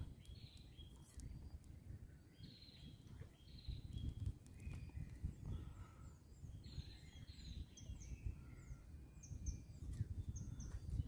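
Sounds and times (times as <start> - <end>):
birds calling and chirping: 0.0 - 11.0
wind rumble on microphone: 0.0 - 11.0.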